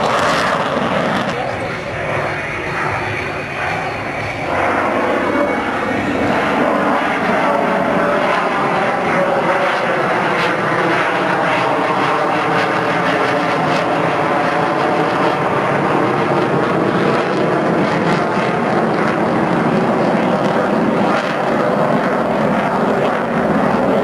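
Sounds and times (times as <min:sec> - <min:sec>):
fighter jet roar: 0:00.0 - 0:24.0.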